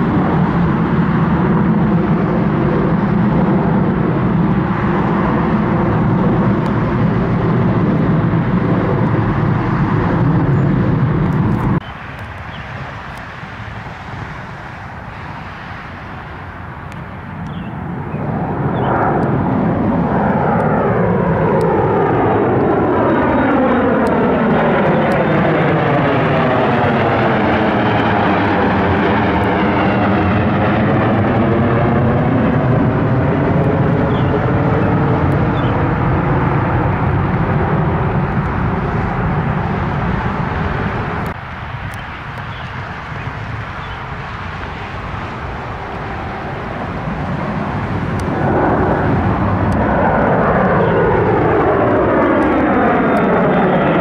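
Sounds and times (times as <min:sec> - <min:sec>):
airliner passing overhead: 0:00.0 - 0:54.0.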